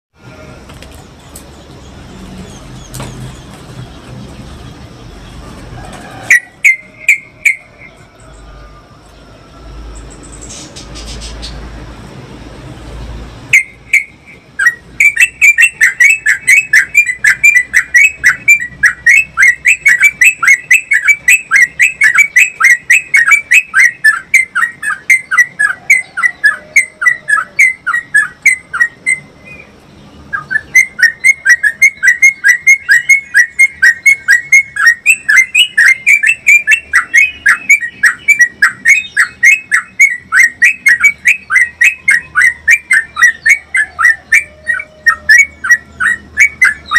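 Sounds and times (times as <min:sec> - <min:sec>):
bird singing rapid falling notes: 0:00.3 - 0:46.9.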